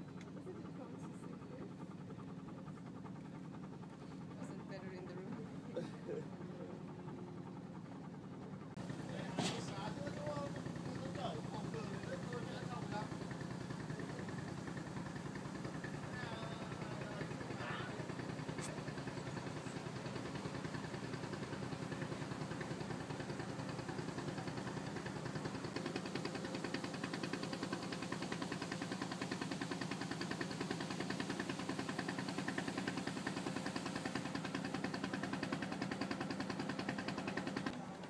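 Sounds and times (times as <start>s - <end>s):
boat engine chugging: 0.0s - 38.0s.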